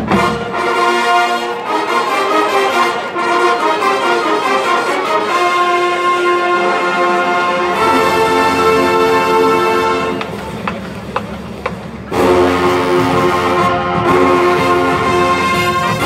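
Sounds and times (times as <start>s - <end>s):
low brass: 0.0s - 10.8s, 12.1s - 16.0s
brass band playing held chords: 0.0s - 16.0s.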